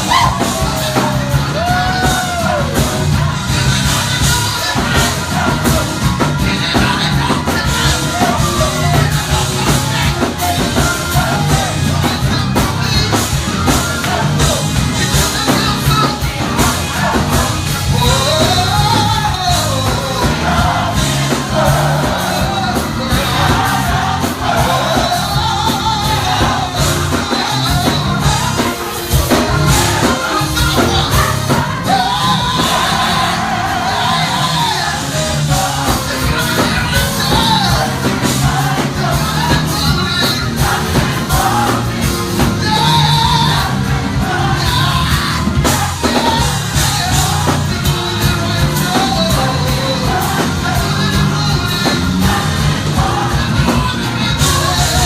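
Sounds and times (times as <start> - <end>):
bass: 0.0 - 55.0
drums: 0.0 - 55.0
gospel choir singing: 0.0 - 55.0.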